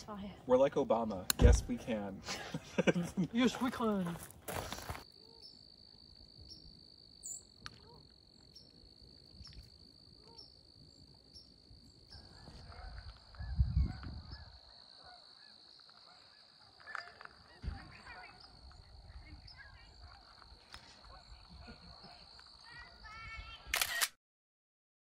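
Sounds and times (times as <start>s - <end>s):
insects droning: 0.0s - 23.7s.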